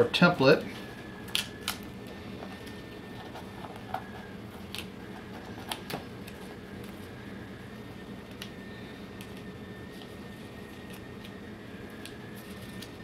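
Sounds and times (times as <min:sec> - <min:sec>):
steady low hum: 0:00.0 - 0:13.0
tape peeling crackles: 0:01.2 - 0:07.1, 0:08.2 - 0:13.0.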